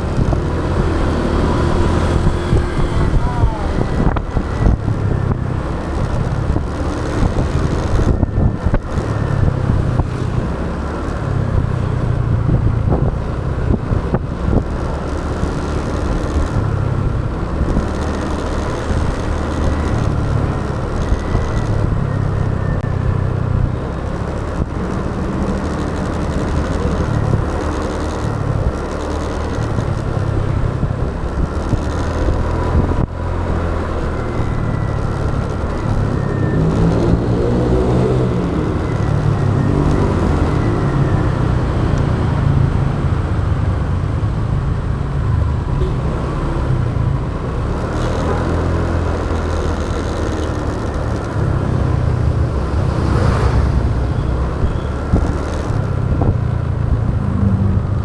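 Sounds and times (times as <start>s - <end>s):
motorbike engine running: 0.0s - 58.0s
road and wind noise: 0.0s - 58.0s
surrounding traffic: 0.0s - 58.0s.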